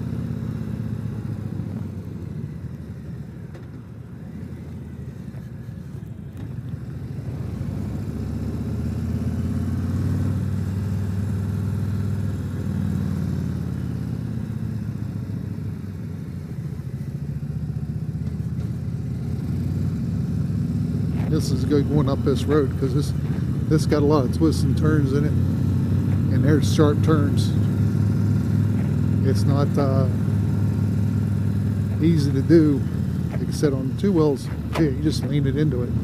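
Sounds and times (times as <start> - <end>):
trike engine running: 0.0 - 36.0.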